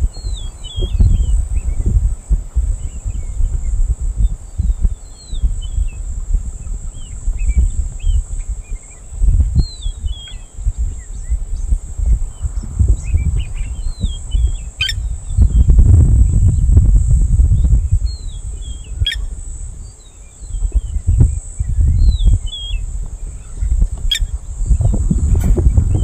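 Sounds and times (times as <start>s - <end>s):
birds chirping: 0.0s - 26.0s
high-pitched hiss: 0.0s - 26.0s
low uneven rumble: 0.0s - 26.0s.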